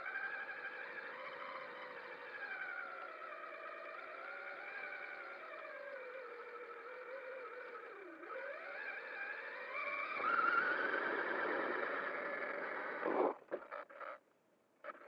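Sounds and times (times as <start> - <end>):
electric motor whine of rc truck: 0.0 - 14.2.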